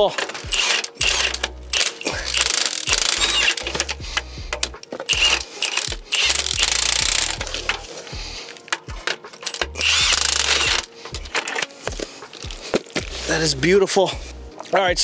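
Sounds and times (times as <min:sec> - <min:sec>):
electronic music with kick drum: 0:00.0 - 0:09.1, 0:09.7 - 0:15.0.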